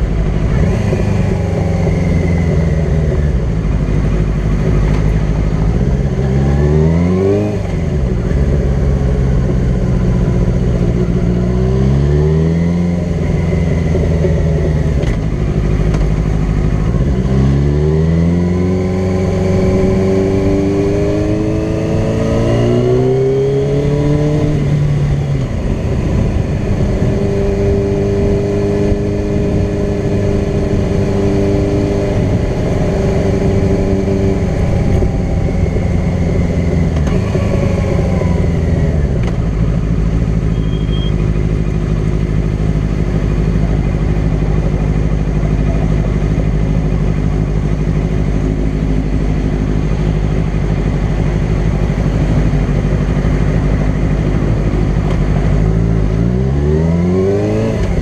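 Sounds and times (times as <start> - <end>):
motorcycle engine revving through gears: 0.0 - 58.0
wind and road noise: 0.0 - 58.0.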